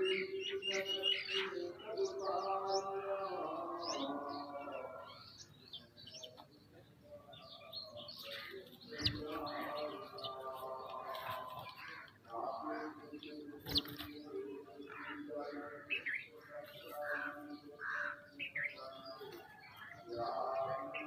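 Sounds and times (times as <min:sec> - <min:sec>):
birds chirping: 0:00.0 - 0:21.0
low steady bird call: 0:00.0 - 0:21.0.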